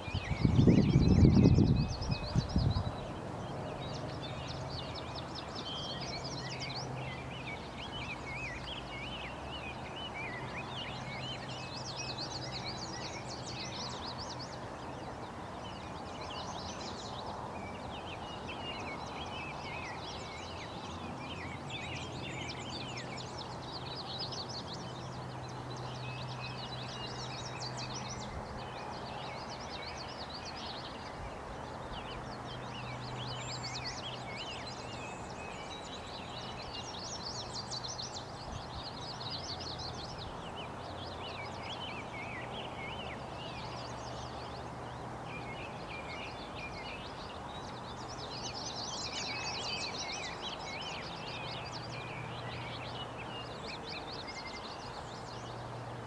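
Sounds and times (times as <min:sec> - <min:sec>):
outdoor background rush: 0:00.0 - 0:56.0
songbirds chirping and trilling: 0:00.0 - 0:56.0.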